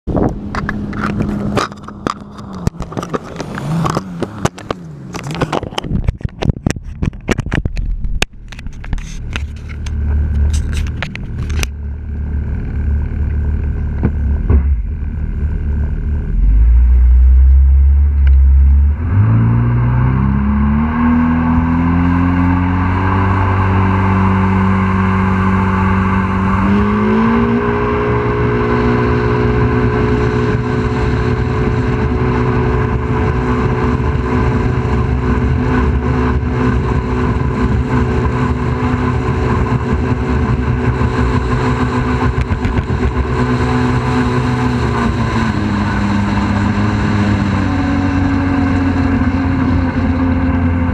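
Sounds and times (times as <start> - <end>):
boat engine running: 0.1 - 50.9.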